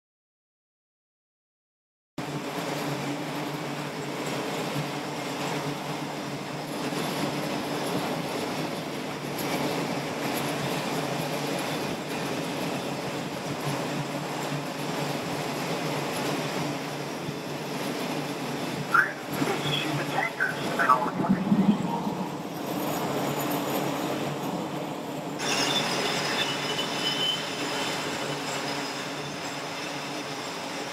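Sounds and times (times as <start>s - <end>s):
jet engines roaring: 2.2s - 30.9s.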